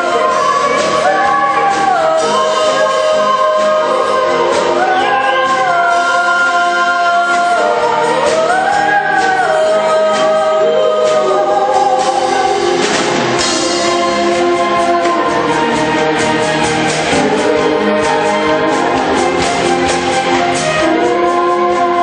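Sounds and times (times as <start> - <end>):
vocal group singing long notes: 0.0 - 22.0.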